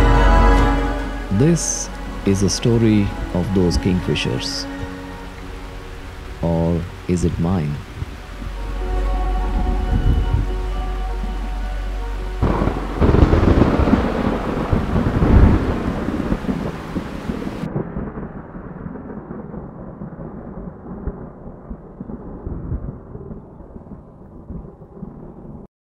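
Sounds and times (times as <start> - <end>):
rain: 0.0 - 25.7
thunder rumbling: 0.0 - 25.7.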